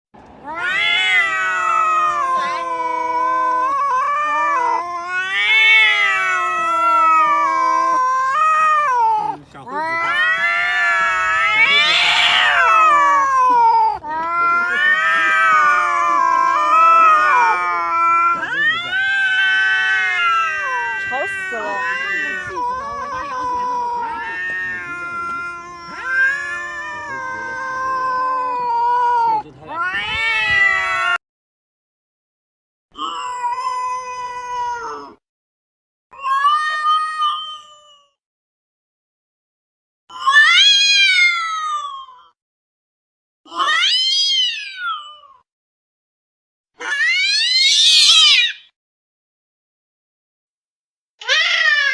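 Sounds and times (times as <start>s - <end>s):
cat yowling: 0.4s - 31.2s, 33.0s - 35.2s, 36.1s - 38.2s, 40.1s - 42.4s, 43.5s - 45.4s, 46.8s - 48.7s, 51.2s - 51.9s.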